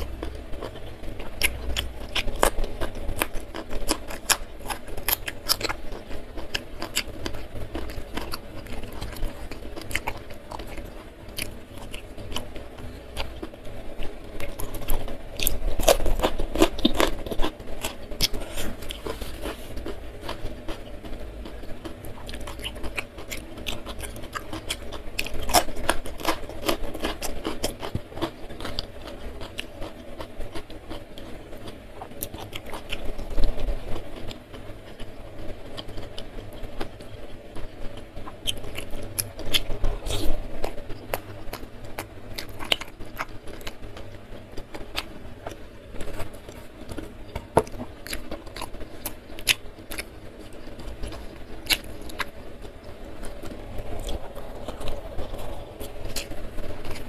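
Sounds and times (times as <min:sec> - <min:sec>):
chewing and crunching fried food: 0:00.0 - 0:57.0.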